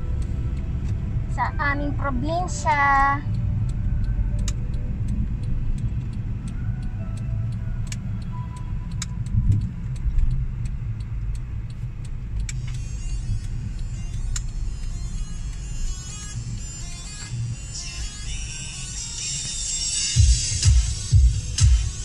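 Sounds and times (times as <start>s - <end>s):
car engine and tyres rumbling: 0.0s - 22.0s
faint regular ticking: 0.0s - 22.0s.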